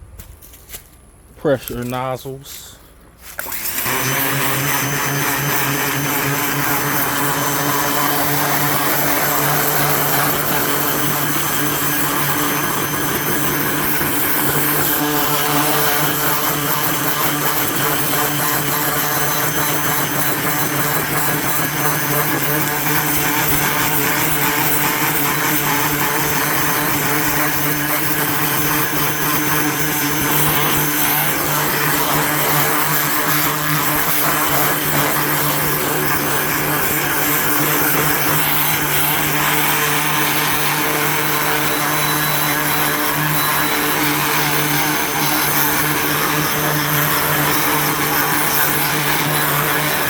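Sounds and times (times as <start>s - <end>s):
pressure washer motor humming: 3.2s - 50.0s.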